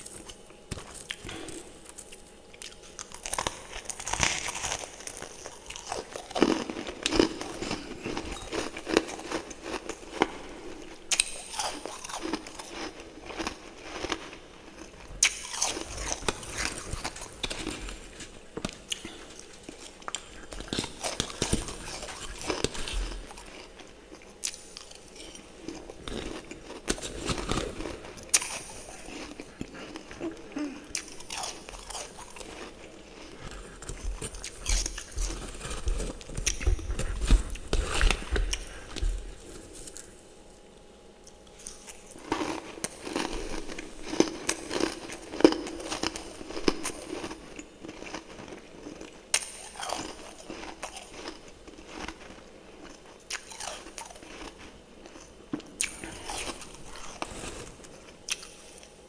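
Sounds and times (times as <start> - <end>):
biting and chewing frost: 0.0 - 59.0.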